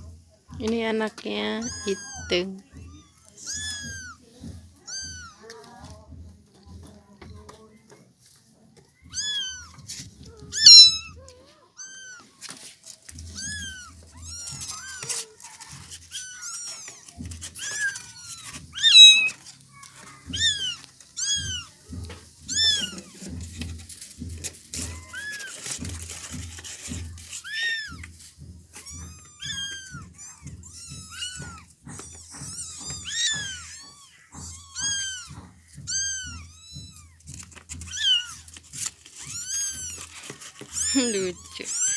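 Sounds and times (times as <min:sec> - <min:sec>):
kittens mewing: 0:01.6 - 0:05.7, 0:09.0 - 0:41.9.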